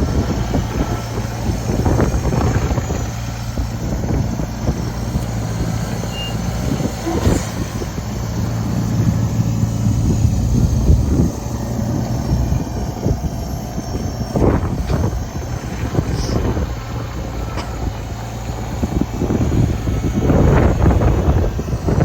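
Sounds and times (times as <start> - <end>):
tractor engine running: 0.0 - 22.0
wind on microphone: 0.0 - 22.0.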